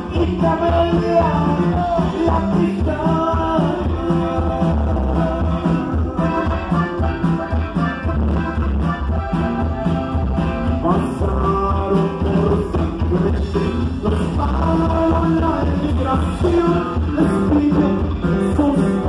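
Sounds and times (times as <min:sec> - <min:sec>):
band music with singing: 0:00.0 - 0:19.0.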